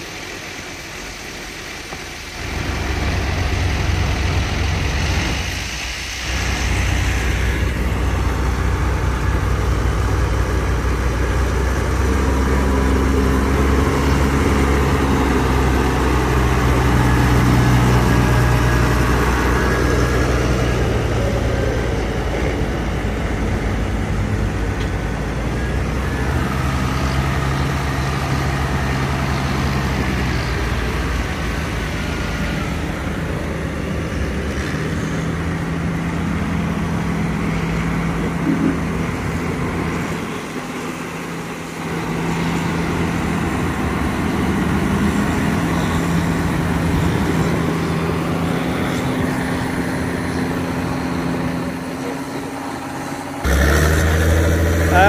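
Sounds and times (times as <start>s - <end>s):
tractor diesel engines under load: 0.0s - 55.0s.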